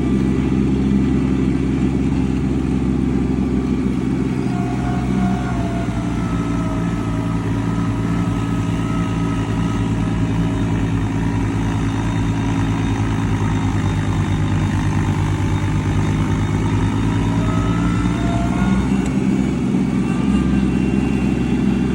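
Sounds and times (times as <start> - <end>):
engine running: 0.0 - 21.9.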